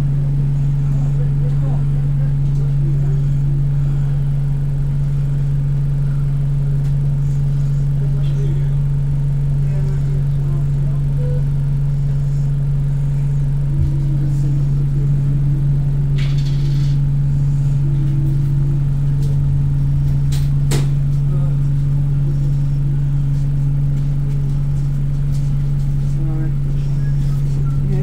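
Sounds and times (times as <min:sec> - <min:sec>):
bus engine humming: 0:00.0 - 0:28.0.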